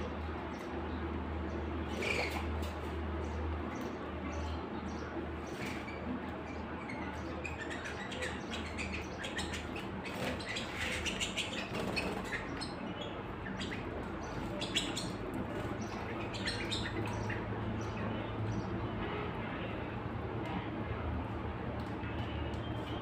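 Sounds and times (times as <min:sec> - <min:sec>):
low background hum: 0:00.0 - 0:23.0
canaries chirping: 0:01.4 - 0:19.9.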